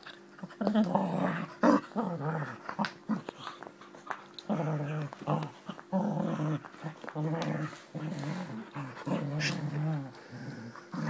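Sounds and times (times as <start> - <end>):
dog growling: 0.4 - 11.0.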